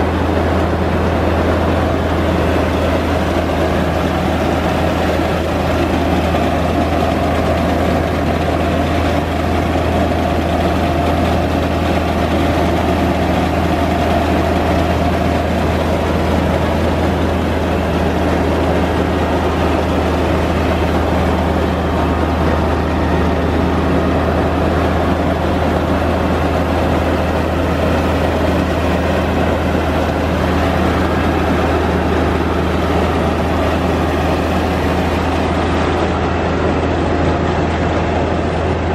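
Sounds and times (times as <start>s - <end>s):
mill engine and machinery drone: 0.0s - 38.9s.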